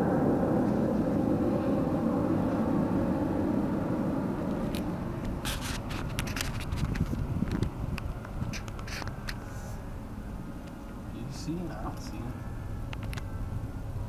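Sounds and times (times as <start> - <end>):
car tyre rumble on road: 0.0 - 14.0.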